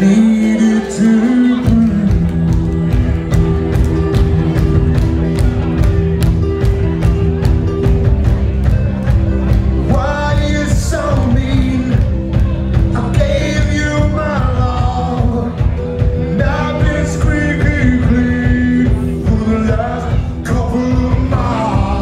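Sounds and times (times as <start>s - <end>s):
person singing: 0.0s - 8.2s, 9.2s - 22.0s
live rock band playing: 0.0s - 22.0s.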